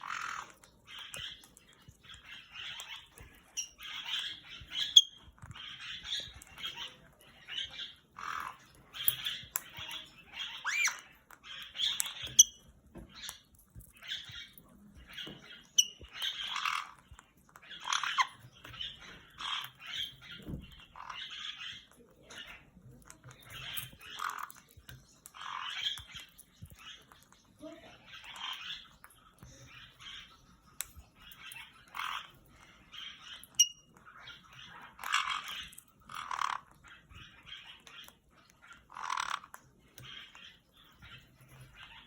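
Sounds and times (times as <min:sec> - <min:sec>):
parrots squawking: 0:00.0 - 0:42.0.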